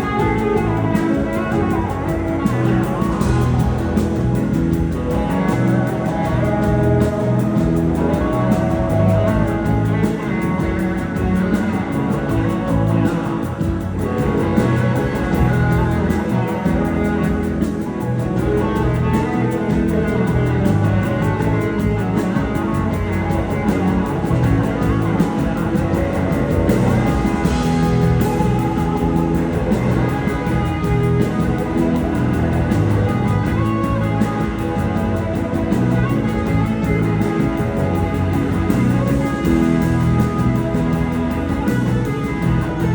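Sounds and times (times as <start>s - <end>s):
live blues-rock band playing: 0.0s - 42.9s.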